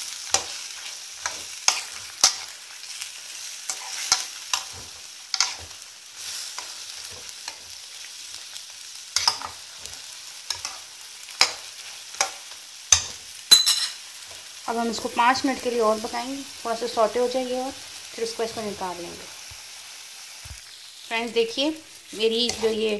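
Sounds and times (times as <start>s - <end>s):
chicken sizzling in oil: 0.0s - 22.9s.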